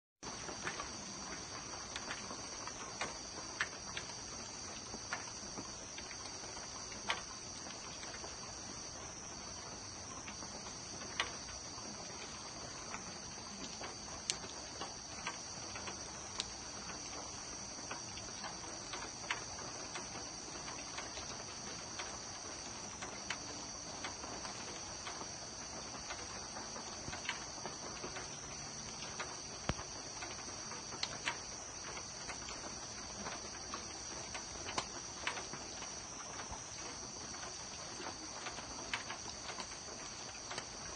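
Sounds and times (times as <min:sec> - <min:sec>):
night insects chorus: 0:00.2 - 0:40.9
rain dripping ticks: 0:00.2 - 0:40.9.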